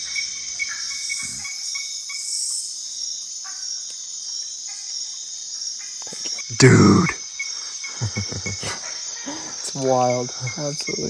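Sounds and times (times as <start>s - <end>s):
lower-pitched insect chirps: 0.0s - 11.0s.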